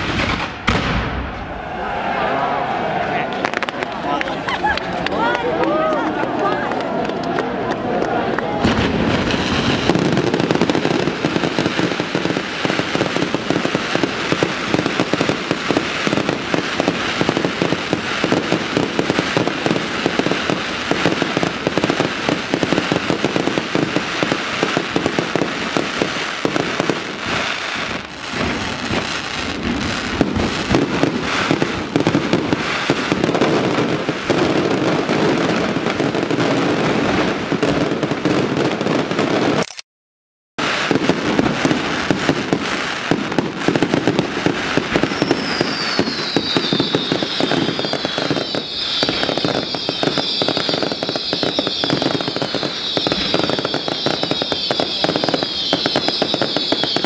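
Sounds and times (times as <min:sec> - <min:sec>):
fireworks banging: 0:00.0 - 0:02.7, 0:03.3 - 0:07.4, 0:08.0 - 0:39.6, 0:40.6 - 0:57.0.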